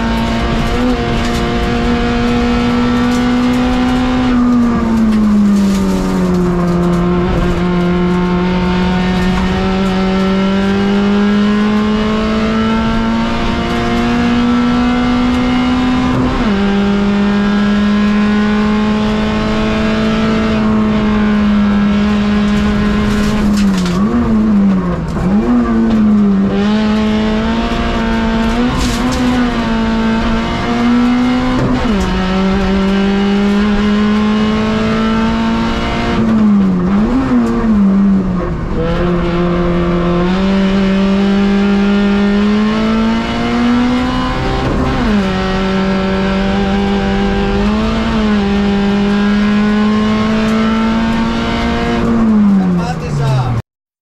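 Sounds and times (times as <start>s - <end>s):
race car engine running hard: 0.0s - 53.6s.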